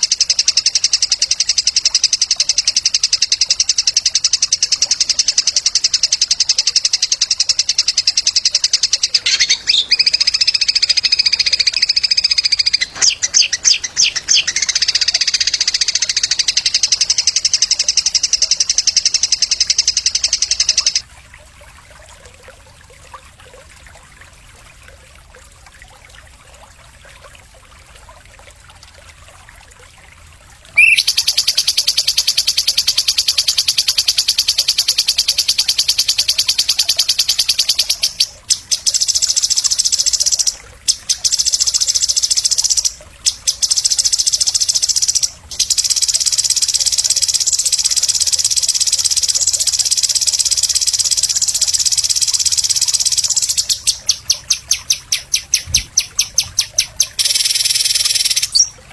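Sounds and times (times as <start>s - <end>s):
rattling bird trill: 0.0s - 21.0s, 30.8s - 58.8s.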